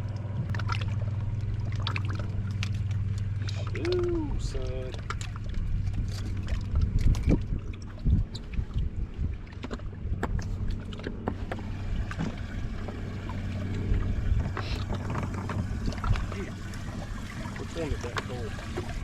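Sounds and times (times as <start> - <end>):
knocks and clunks in a boat: 0.0 - 19.0
low hum from boat: 0.0 - 19.0.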